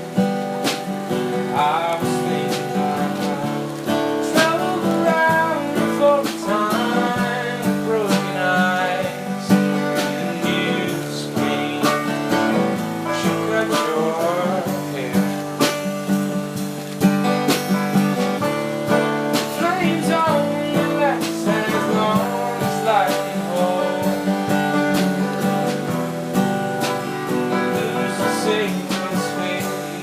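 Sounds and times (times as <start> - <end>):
guitar-led instrumental song: 0.0 - 30.0.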